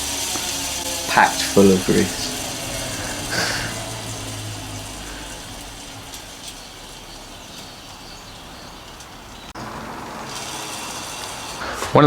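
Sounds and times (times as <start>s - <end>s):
bicycle freehub buzzing: 0.0s - 12.0s.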